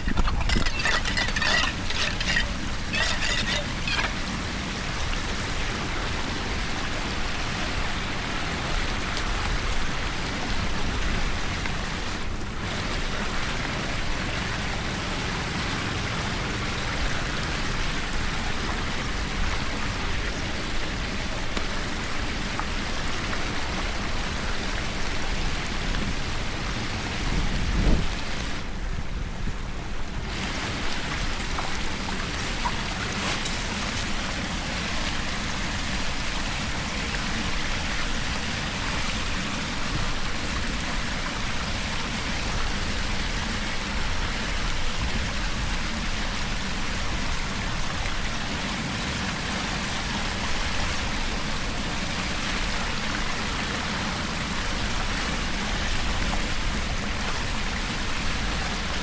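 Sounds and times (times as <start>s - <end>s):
running water splashing: 0.0s - 28.7s, 30.3s - 59.0s.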